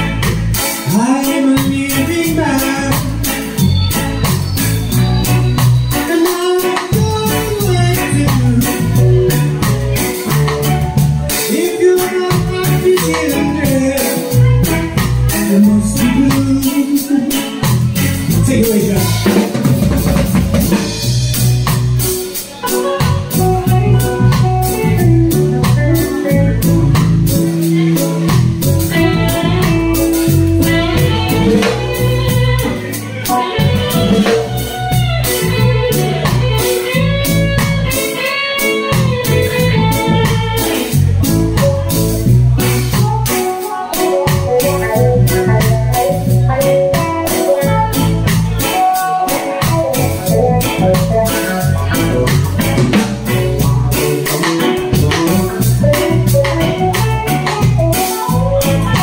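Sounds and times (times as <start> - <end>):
drum kit with cymbals: 0.0 - 59.0
electric guitar: 0.0 - 59.0
stage keyboard: 0.0 - 59.0.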